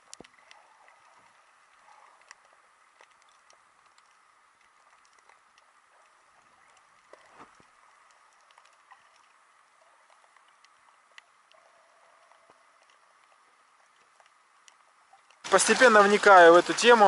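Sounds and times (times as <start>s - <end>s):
tiny clicks and crackles: 0.0s - 15.5s
faint underwater hiss: 0.0s - 17.0s.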